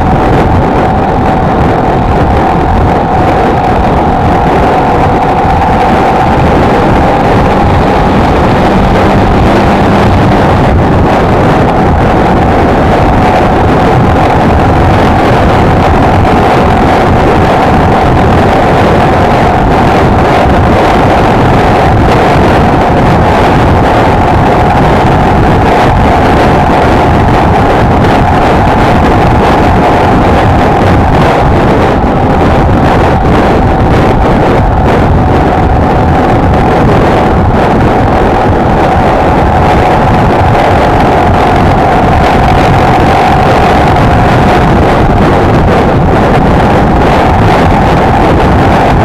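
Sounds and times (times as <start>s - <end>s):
motorcycle engine cruising: 0.0s - 49.0s
wind noise on microphone: 0.0s - 49.0s.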